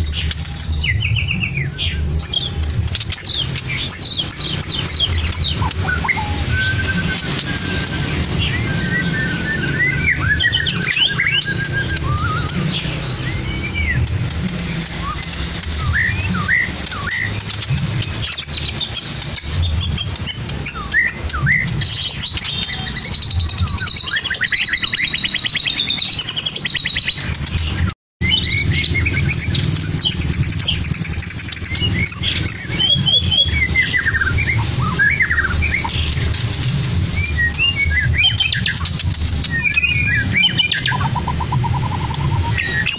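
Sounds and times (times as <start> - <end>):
songbird singing chirps and trills: 0.0 - 42.9.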